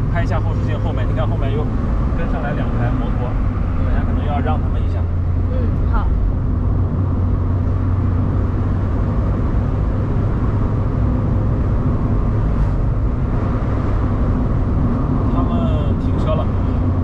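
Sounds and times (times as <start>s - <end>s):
car engine running: 0.0s - 17.0s
road noise: 0.0s - 17.0s
wind noise: 1.6s - 17.0s.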